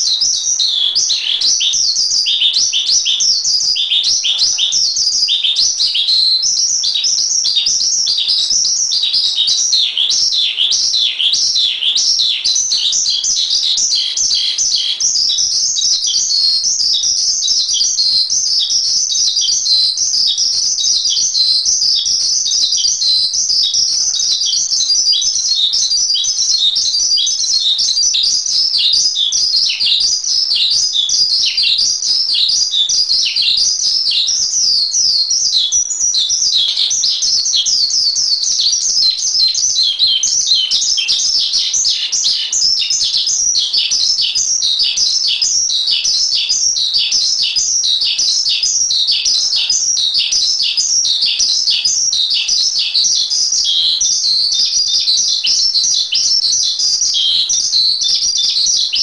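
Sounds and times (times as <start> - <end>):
bird chirping and whistling: 0.0 - 59.0.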